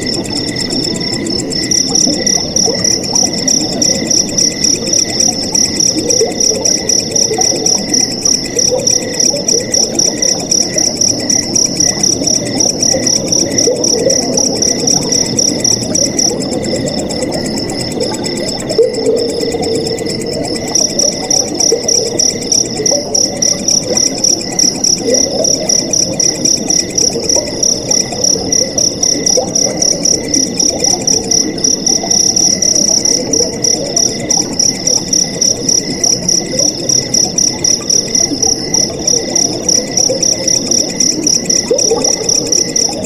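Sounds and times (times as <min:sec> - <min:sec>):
crickets chirping: 0:00.0 - 0:43.0
water gurgling: 0:00.0 - 0:43.0.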